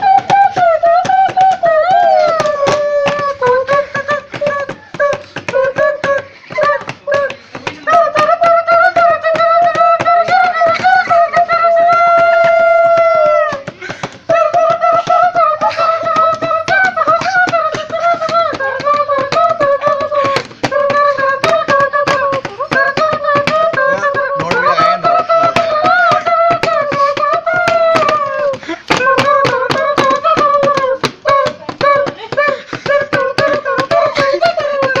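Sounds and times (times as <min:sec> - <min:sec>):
hand-cupped mouth melody: 0:00.0 - 0:35.0.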